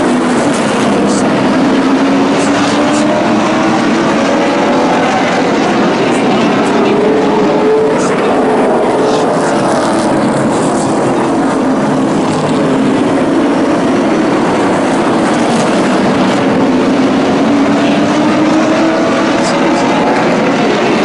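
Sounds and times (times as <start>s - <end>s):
racing truck engines: 0.0s - 21.0s.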